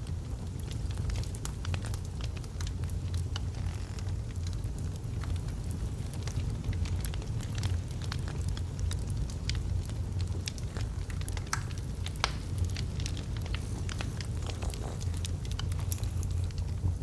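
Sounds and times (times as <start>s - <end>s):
fire rumbling: 0.0s - 17.0s
wood crackling and popping: 0.0s - 17.0s.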